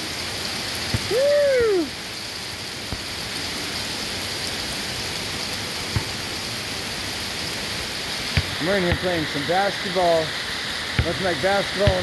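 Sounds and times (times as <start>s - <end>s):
hail falling: 0.1s - 12.0s
hailstones ticking: 0.5s - 12.0s.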